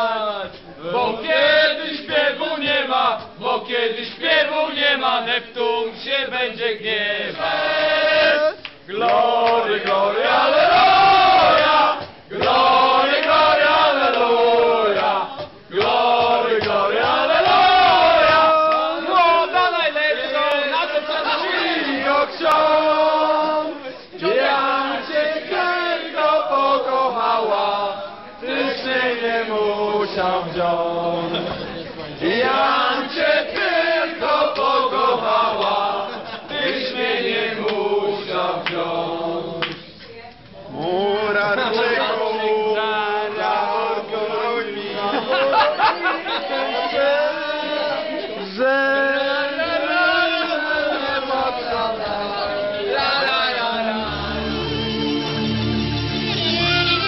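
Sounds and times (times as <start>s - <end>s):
group singing in unison: 0.0s - 40.0s, 40.7s - 57.0s.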